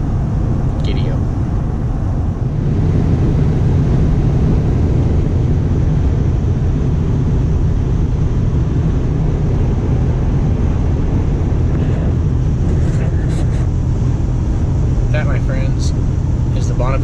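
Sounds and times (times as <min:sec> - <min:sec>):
vehicle road and engine rumble: 0:00.0 - 0:17.0.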